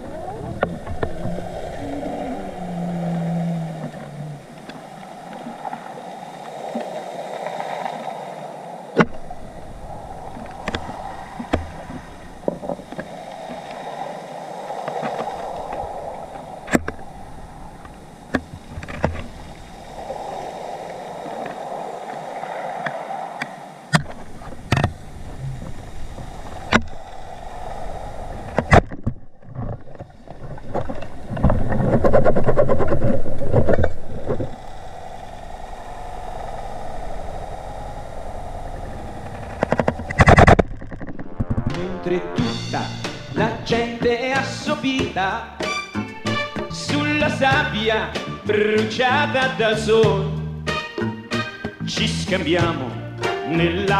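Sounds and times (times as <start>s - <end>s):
underwater rush of water: 0.0s - 50.4s.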